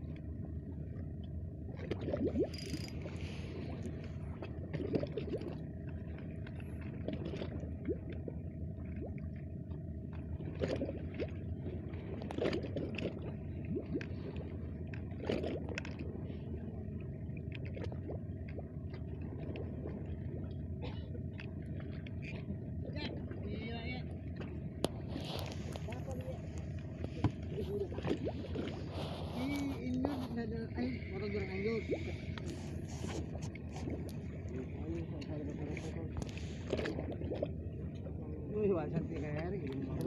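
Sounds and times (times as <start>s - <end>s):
steady low drone: 0.0s - 40.0s
water lapping and gurgling: 0.0s - 40.0s.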